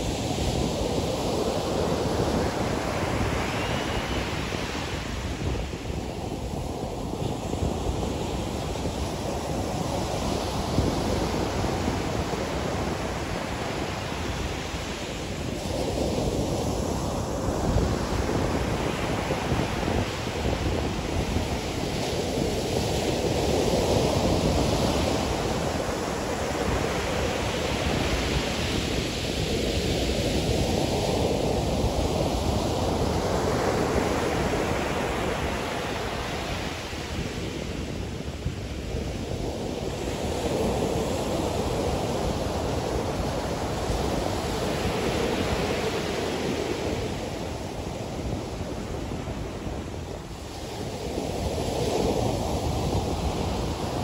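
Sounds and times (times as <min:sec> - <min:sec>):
ocean surf breaking on sand: 0:00.0 - 0:54.0.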